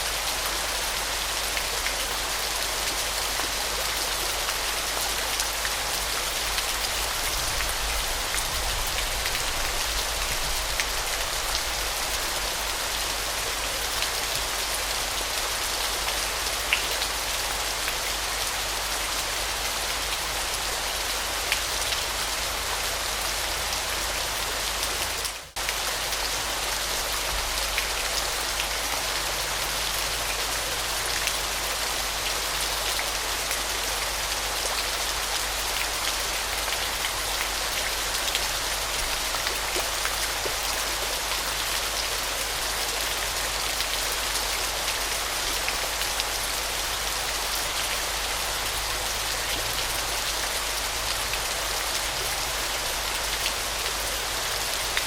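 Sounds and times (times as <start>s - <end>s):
water splashes and drips: 0.0s - 55.0s.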